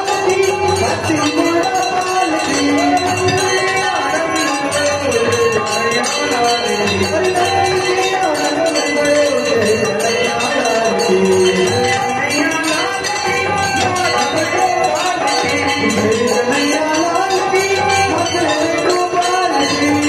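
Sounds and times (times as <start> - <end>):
temple bells ringing: 0.0 - 20.0
voices singing devotional songs: 0.0 - 20.0.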